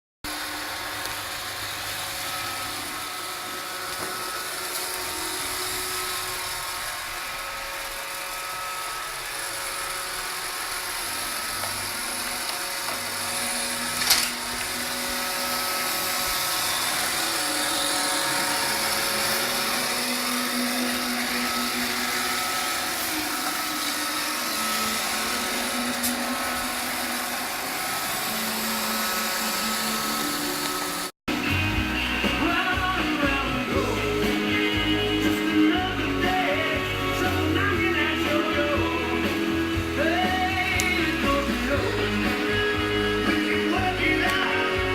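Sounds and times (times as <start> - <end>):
robot vacuum whirring: 0.3 - 44.9.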